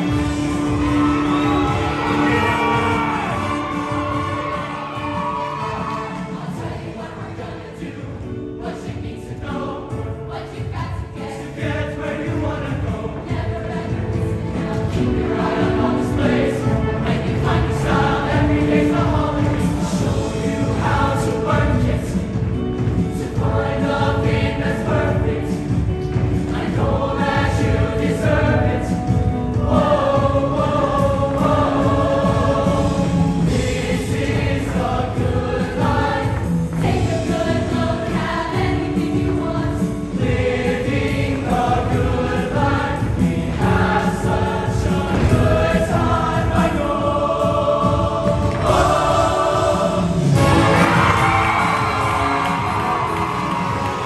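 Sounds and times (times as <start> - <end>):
live band accompaniment: 0.0 - 6.8, 12.4 - 54.0
choir singing in harmony: 0.0 - 54.0.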